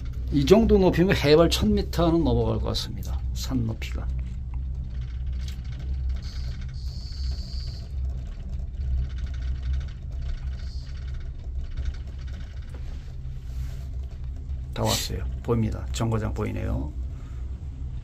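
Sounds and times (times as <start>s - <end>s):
gondola ropeway rumble: 0.0s - 18.0s.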